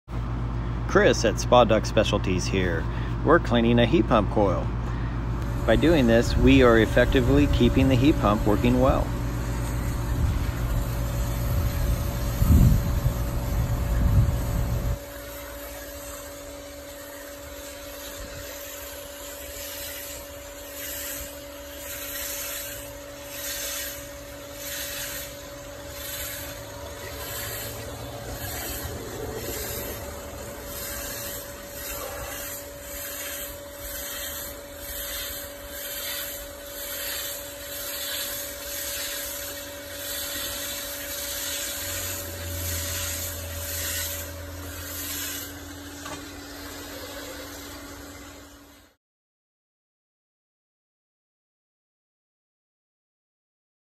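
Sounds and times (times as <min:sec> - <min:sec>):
steady hum: 0:00.1 - 0:49.0
hose spray hissing on metal fins: 0:05.4 - 0:49.0.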